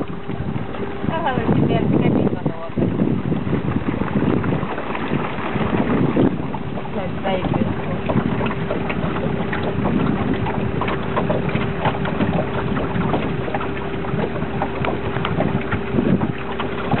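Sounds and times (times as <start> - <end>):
boat motor humming: 0.0 - 17.0
rushing water: 0.0 - 17.0
wind noise on microphone: 0.0 - 17.0.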